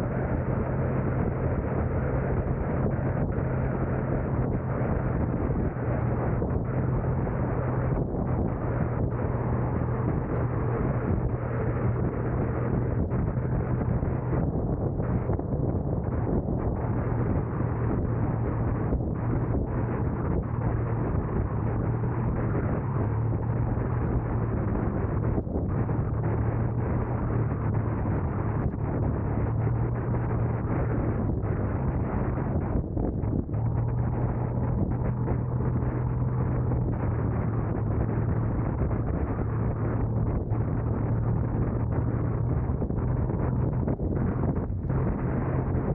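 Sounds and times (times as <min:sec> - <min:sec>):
car road and engine noise: 0:00.0 - 0:45.9
constant low hum: 0:00.0 - 0:45.9
wind buffeting microphone: 0:00.0 - 0:45.9.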